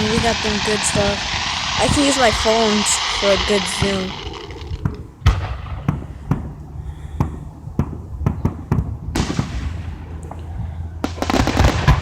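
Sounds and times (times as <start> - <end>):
fireworks banging: 0.0 - 6.6, 7.2 - 10.3, 11.0 - 12.0
low rumble: 0.0 - 11.9.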